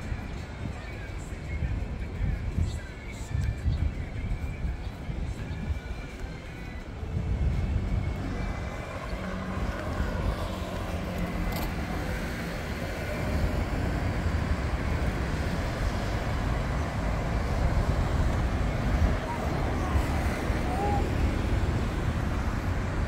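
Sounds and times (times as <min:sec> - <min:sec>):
cars passing: 0:04.3 - 0:23.0.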